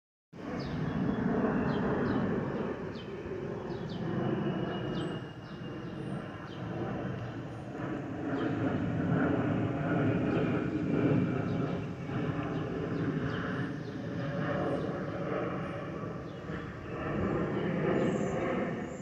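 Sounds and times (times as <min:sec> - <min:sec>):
jet engine rumble: 0:00.4 - 0:19.0.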